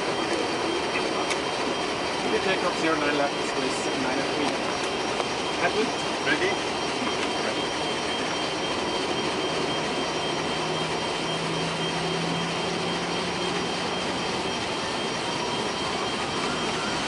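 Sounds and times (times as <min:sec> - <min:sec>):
faint rising whine: 0:00.0 - 0:17.0
jet engine cockpit whine: 0:00.0 - 0:17.0.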